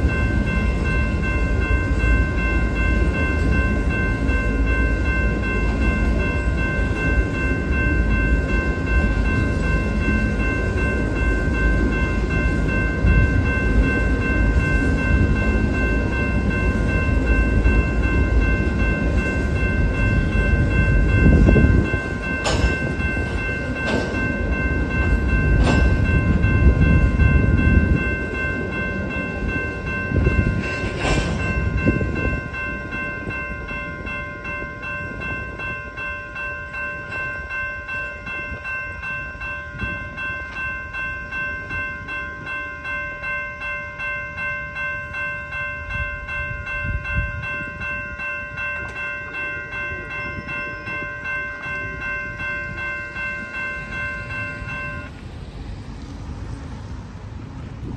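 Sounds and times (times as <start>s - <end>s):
crossing warning bell ringing: 0.0s - 57.9s
freight train wheels rumbling: 0.0s - 57.9s
train clanks: 0.0s - 57.9s.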